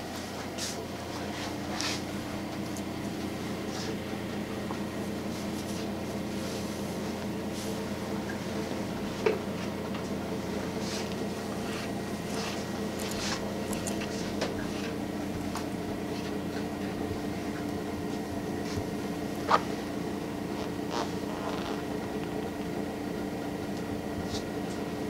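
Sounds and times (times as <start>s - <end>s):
electric massager buzzing: 1.1s - 25.0s.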